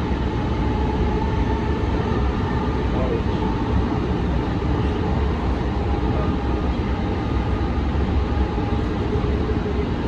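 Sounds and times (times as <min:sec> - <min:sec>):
wheels rumbling on rail: 0:00.0 - 0:10.0.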